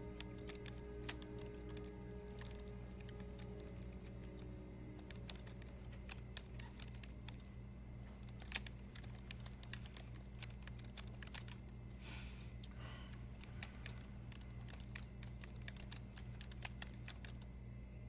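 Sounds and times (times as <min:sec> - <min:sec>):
keyboard keys clicking: 0:00.0 - 0:11.8, 0:12.4 - 0:17.5
low hum: 0:00.0 - 0:18.0.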